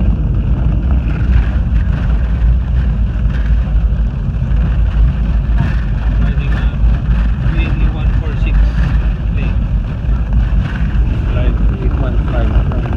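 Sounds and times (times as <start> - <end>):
jet engine noise: 0.0 - 12.9
wheels rolling on runway: 0.0 - 12.9.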